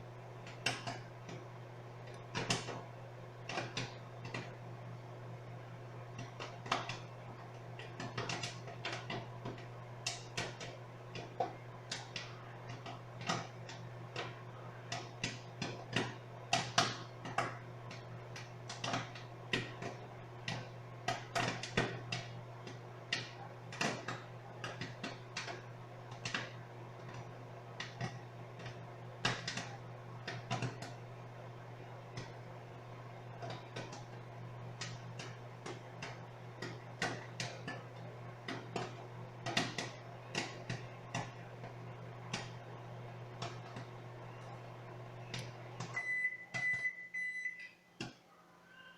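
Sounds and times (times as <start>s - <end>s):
popcorn popping: 0.0s - 47.0s
microwave oven humming: 0.0s - 48.9s.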